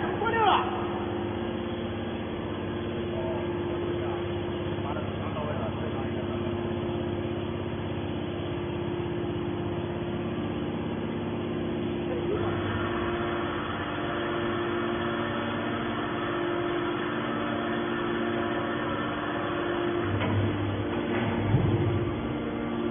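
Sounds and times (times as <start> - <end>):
hydraulic pump humming: 0.0 - 22.9.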